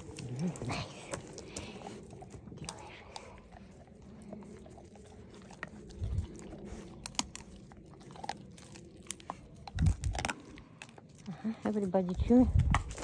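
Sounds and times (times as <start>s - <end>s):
puppy chewing and crunching: 0.0s - 13.0s.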